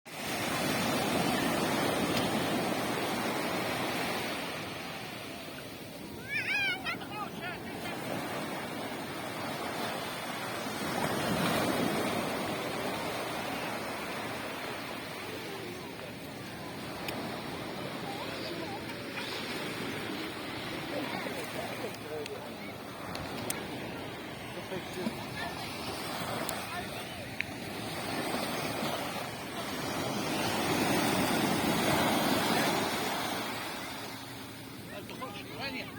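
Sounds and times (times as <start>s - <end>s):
waves breaking on a beach: 0.1s - 35.9s.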